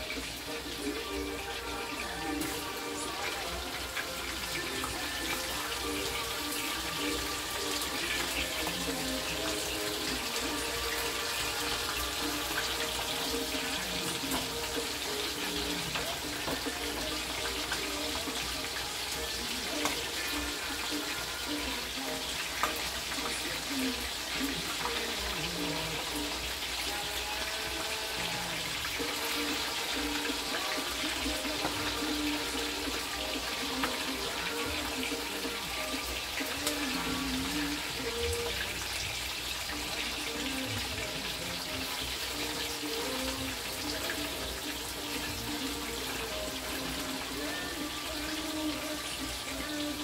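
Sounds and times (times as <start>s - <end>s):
chicken frying in oil: 0.0s - 50.0s
pot of water boiling: 0.0s - 50.0s.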